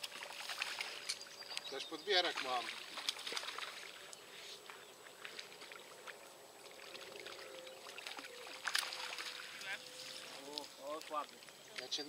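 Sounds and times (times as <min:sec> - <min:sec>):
fish splashing in water: 0:00.0 - 0:04.2, 0:05.0 - 0:11.6.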